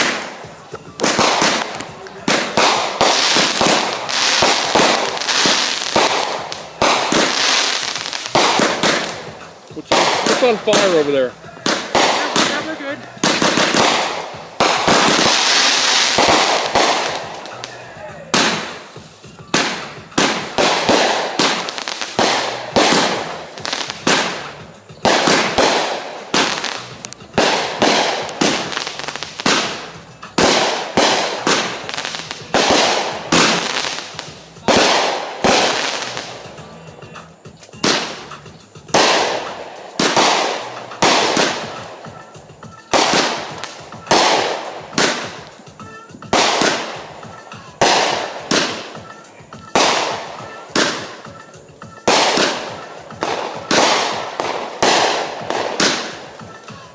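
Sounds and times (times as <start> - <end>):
fireworks exploding: 0.0 - 56.9.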